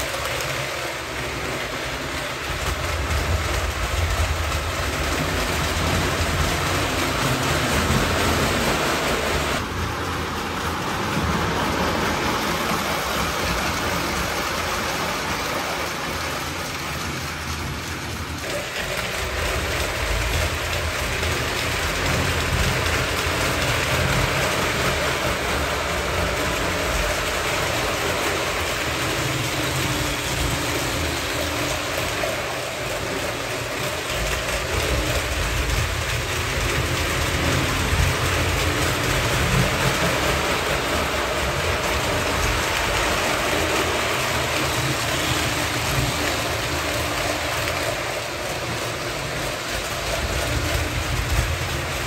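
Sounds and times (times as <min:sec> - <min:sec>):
model train motor running: 0:00.0 - 0:52.0
model train wheels rumbling on rail: 0:00.0 - 0:52.0.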